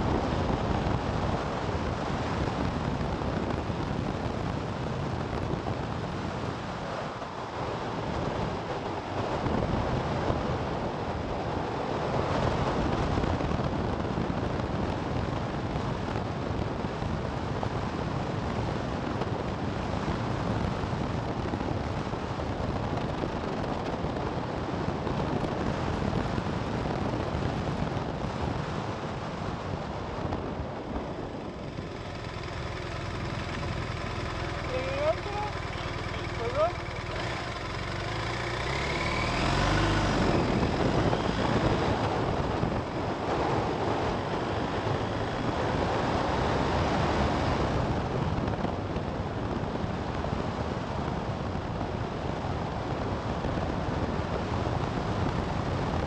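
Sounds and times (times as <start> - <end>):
wind rush over microphone: 0.0 - 56.0.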